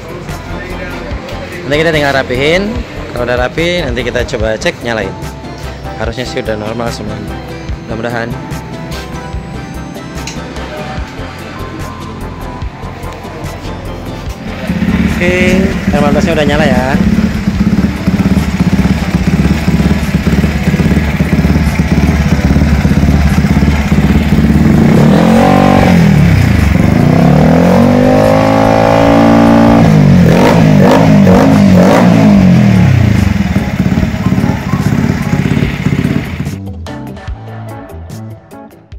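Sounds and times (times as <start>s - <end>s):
motorcycle engine idling and revving: 0.0s - 36.7s.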